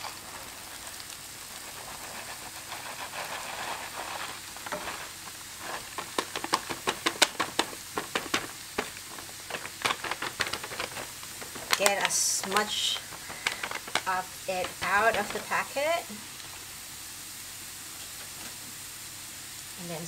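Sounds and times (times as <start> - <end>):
sharp clicks and crackles: 0.0 - 16.6
cauliflower rice pouring: 0.0 - 19.7
food sizzling in a frying pan: 0.0 - 20.0.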